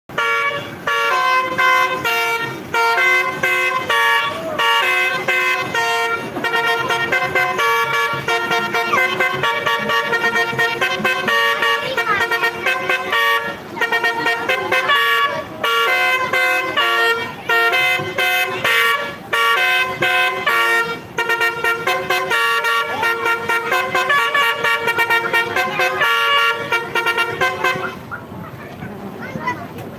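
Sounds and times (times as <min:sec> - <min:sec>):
multi-tone bus horn melody: 0:00.1 - 0:28.5.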